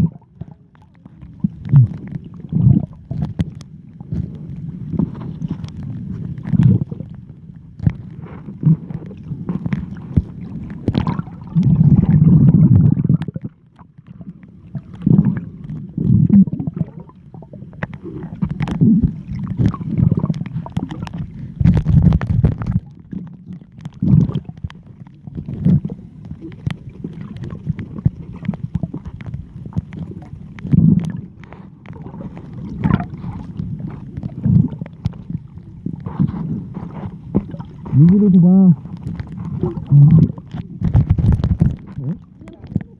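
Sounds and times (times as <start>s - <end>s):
seawater sloshing and gurgling: 0.0s - 42.9s
small water splashes: 7.8s - 42.9s.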